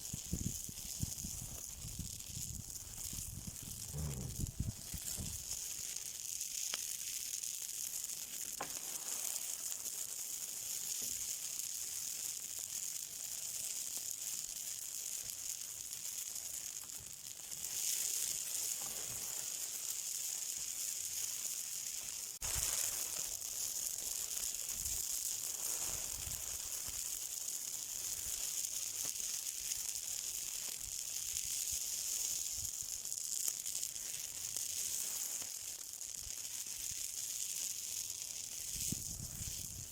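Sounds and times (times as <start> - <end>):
fire sizzling and crackling: 0.0 - 39.9.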